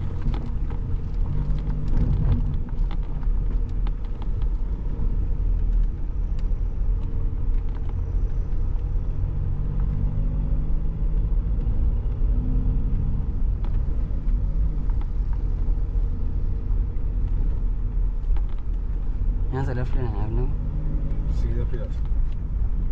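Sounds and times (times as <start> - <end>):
diesel engine rumbling: 0.0 - 22.9
road noise: 0.0 - 22.9.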